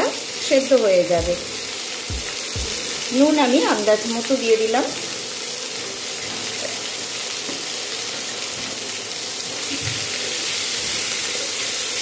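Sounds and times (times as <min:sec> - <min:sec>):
onions and potatoes sizzling in oil: 0:00.0 - 0:12.0.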